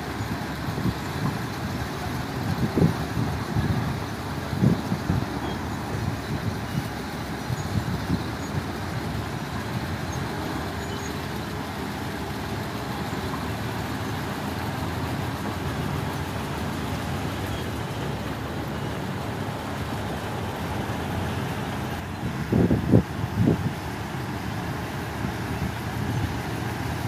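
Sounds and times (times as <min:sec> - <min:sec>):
heavy machinery engines rumbling: 0:00.0 - 0:27.0.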